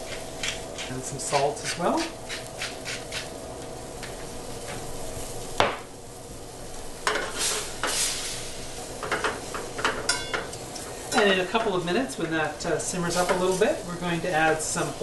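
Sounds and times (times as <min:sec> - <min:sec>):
sauce sizzling in a frying pan: 0:01.7 - 0:15.0.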